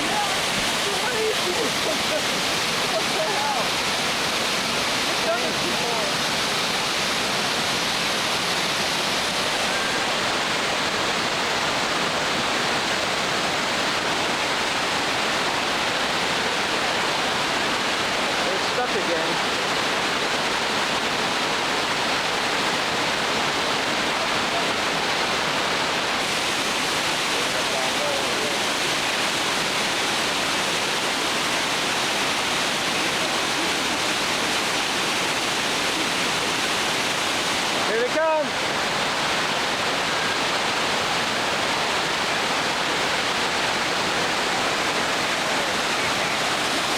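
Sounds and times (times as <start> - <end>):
river rapids rushing: 0.0 - 46.9.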